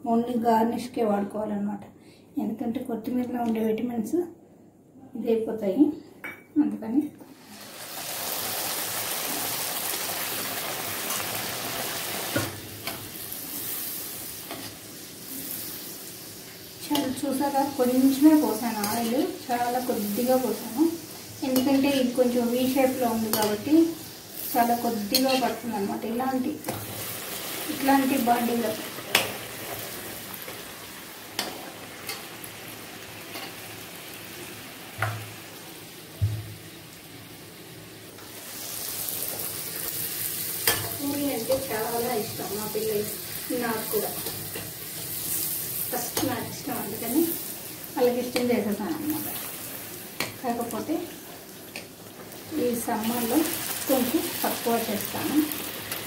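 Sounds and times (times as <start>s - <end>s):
frying in hot oil sizzle: 7.4s - 56.0s.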